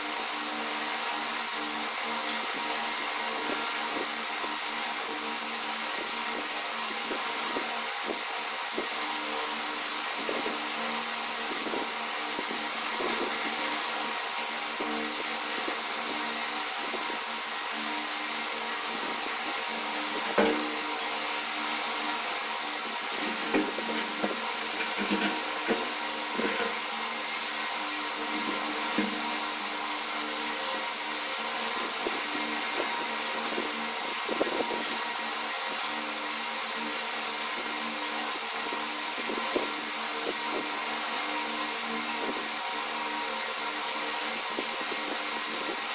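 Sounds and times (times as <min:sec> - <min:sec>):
ceiling fan humming: 0:00.0 - 0:45.9.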